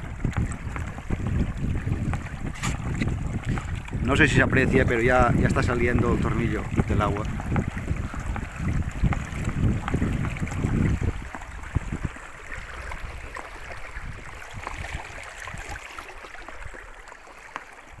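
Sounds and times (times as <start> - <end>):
low rumble on microphone: 0.0 - 16.9
water rushing and splashing: 0.0 - 18.0.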